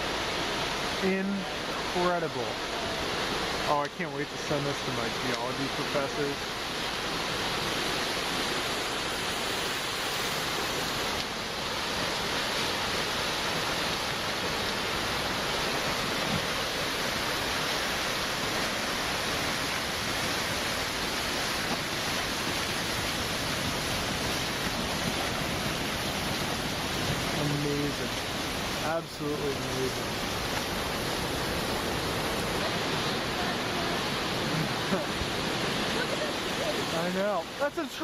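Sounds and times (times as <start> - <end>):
floodwater rushing with debris: 0.0 - 38.0.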